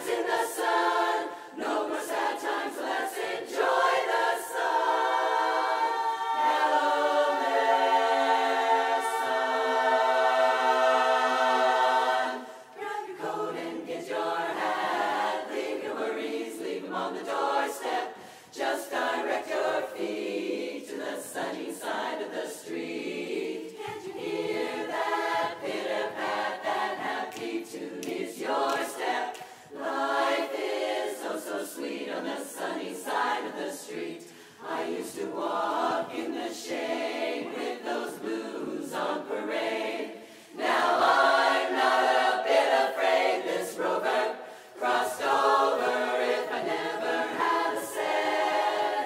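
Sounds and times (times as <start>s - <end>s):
women's chorus singing a cappella: 0.0s - 49.0s.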